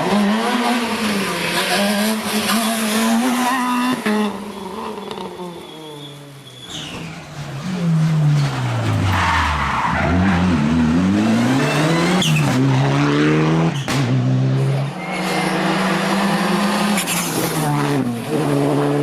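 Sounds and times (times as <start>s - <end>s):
rally car engine revving: 0.0s - 6.0s, 7.2s - 19.0s.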